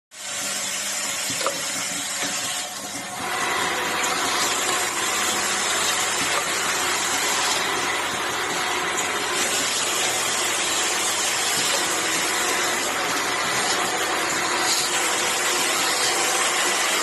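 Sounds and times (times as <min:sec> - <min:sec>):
machine hissing: 0:00.2 - 0:17.0.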